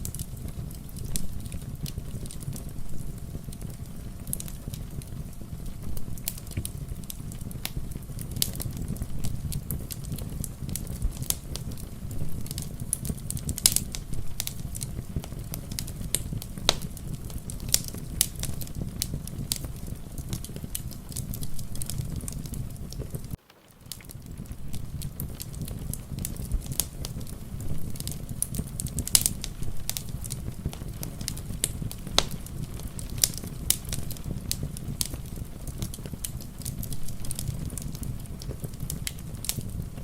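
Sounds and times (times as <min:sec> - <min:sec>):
rain pattering: 0:00.0 - 0:40.0
wood fire crackling and popping: 0:00.0 - 0:40.0.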